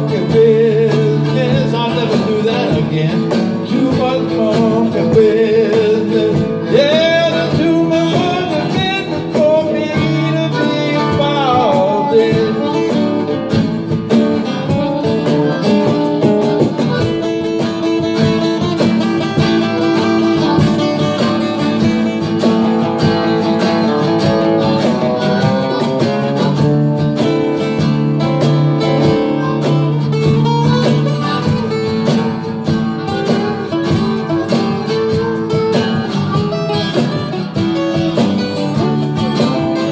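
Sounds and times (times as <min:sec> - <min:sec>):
electric guitar bending notes: 0:00.0 - 0:39.9
live rock and roll band: 0:00.0 - 0:39.9.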